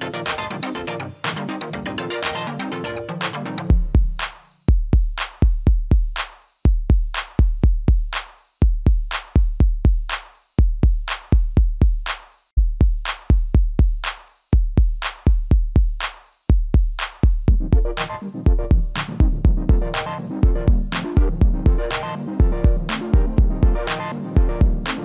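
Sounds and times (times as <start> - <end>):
electronic music drum-machine beat: 3.2 - 25.0.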